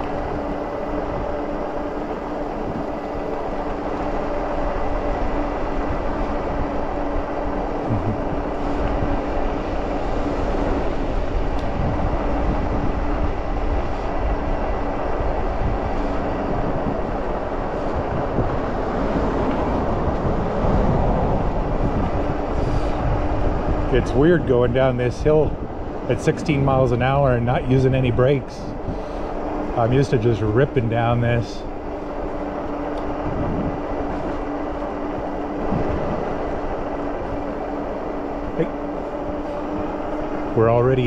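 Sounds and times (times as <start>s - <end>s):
faint steady hum: 0.0s - 41.0s
wind rushing over the microphone: 0.0s - 41.0s.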